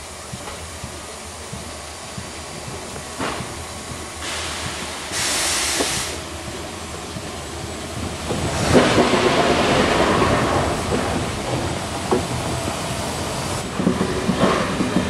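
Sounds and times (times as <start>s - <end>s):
rush of steam: 0.0s - 15.0s
steam hissing: 0.0s - 15.0s.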